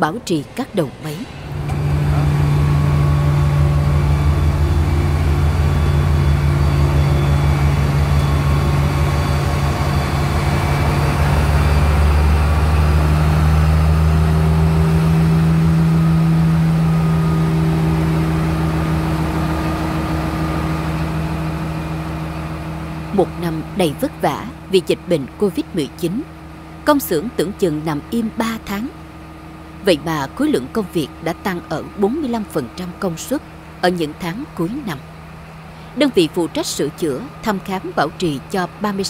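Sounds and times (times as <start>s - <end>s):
diesel locomotive engine droning: 0.0s - 39.0s.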